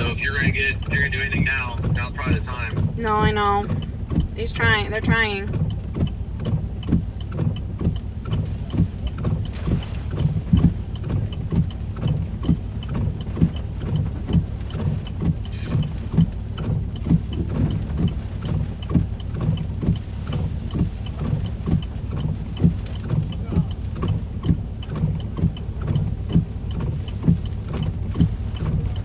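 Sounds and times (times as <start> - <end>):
steady ticking: 0.0 - 29.0
wind and rain buffeting car: 0.0 - 29.0.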